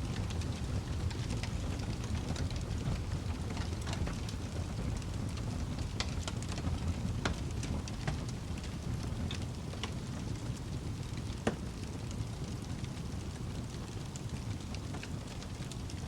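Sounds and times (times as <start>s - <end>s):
burning wood crackling and popping: 0.0s - 16.0s
fire burning with low rumble: 0.0s - 16.0s.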